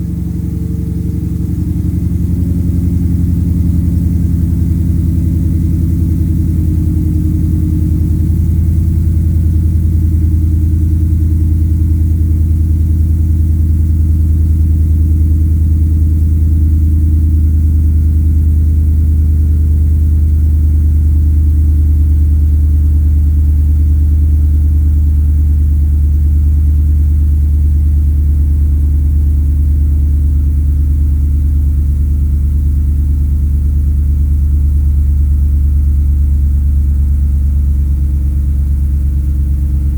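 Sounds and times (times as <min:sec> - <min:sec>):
car engine idling deep rumble: 0:00.0 - 0:39.9.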